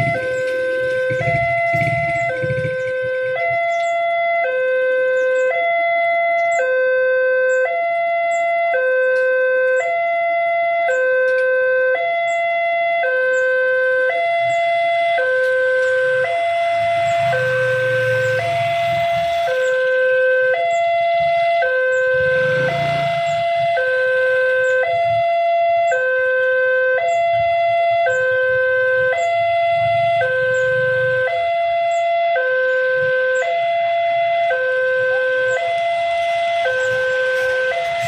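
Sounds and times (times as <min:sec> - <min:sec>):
level crossing two-tone alarm: 0:00.0 - 0:38.0.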